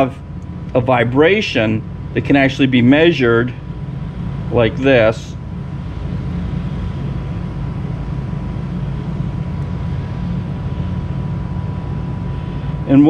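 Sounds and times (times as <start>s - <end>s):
low mechanical droning hum: 0.0s - 13.0s.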